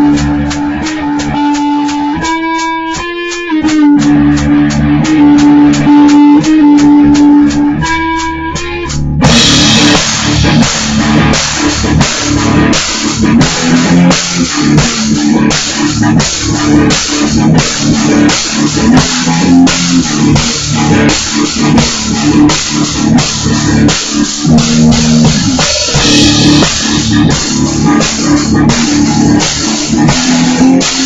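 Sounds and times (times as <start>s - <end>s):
drum kit playing: 0.0s - 31.0s
electric guitar rock riff: 0.0s - 31.0s.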